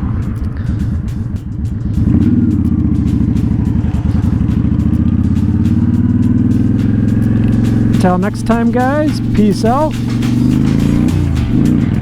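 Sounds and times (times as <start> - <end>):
motorcycle exhaust cruising: 0.0 - 12.0.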